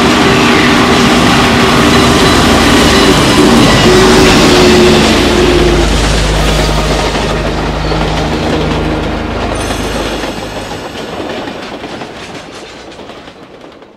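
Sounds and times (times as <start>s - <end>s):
train wheels clattering on rails: 0.0s - 13.9s.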